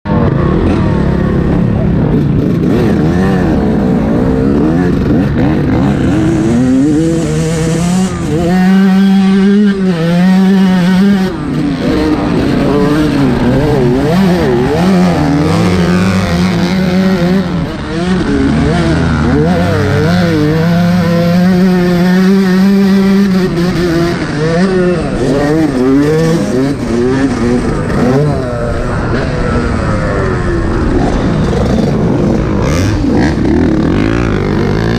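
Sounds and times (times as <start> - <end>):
motocross bike engine revving: 0.1 - 34.9.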